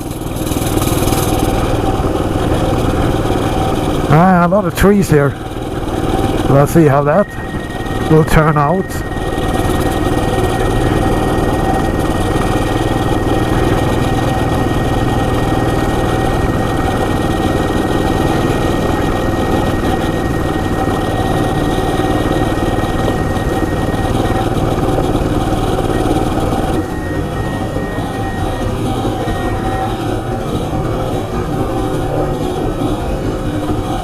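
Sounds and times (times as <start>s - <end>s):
mini bike engine running: 0.0s - 34.0s.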